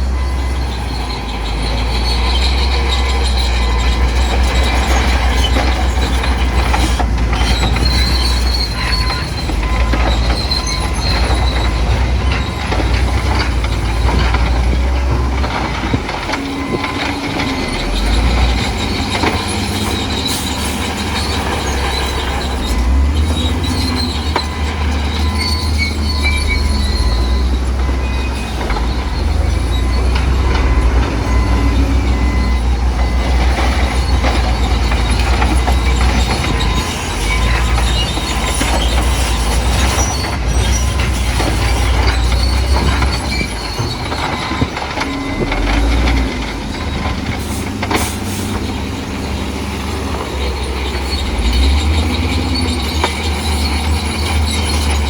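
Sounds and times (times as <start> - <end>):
diesel engine under load: 0.0 - 55.0
steel tracks squealing and clanking: 0.0 - 55.0.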